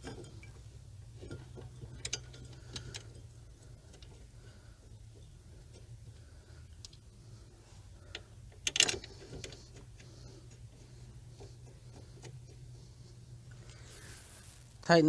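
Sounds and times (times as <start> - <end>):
steady low hum: 2.0 - 15.0.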